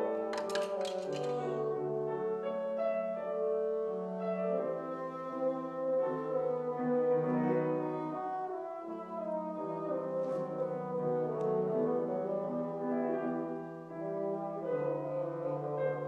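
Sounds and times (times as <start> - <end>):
french horn melody: 0.0 - 16.0
grand piano: 0.0 - 16.0.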